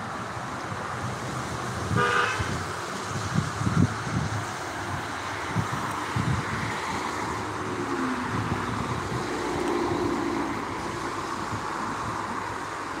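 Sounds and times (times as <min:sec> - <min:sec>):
street traffic hum: 0:00.0 - 0:13.0
wind buffeting microphone: 0:00.0 - 0:13.0.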